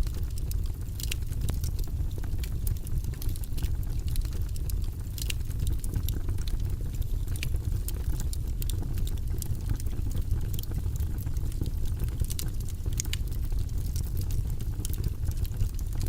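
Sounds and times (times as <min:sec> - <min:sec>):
fire crackling and snapping: 0:00.0 - 0:16.0
low rumble of flames: 0:00.0 - 0:16.0.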